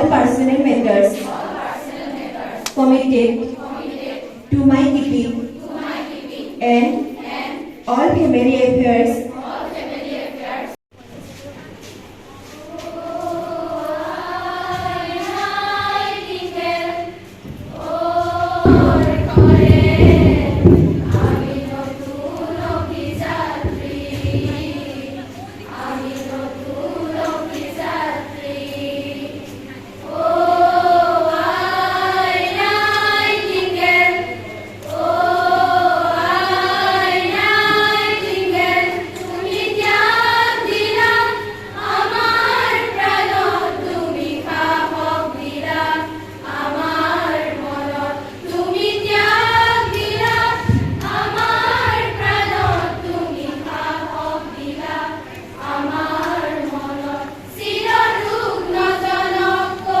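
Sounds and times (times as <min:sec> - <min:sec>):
students singing in chorus: 0:00.0 - 0:08.4, 0:09.0 - 0:10.8, 0:12.4 - 1:00.0.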